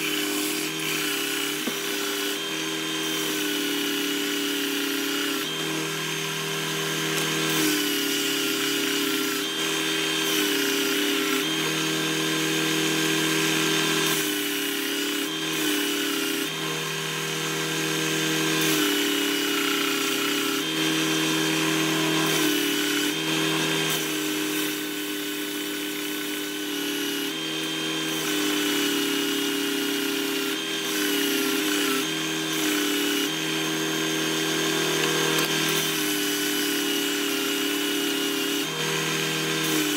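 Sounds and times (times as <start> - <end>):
belt sander motor hum: 0.0 - 39.9.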